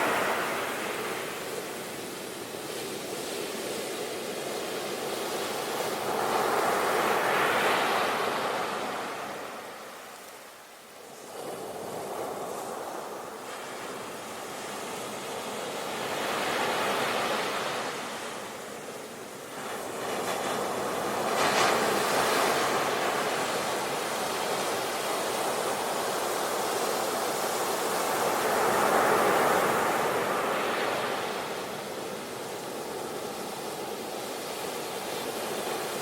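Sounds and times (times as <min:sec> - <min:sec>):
sea waves breaking on shore: 0:00.0 - 0:36.0.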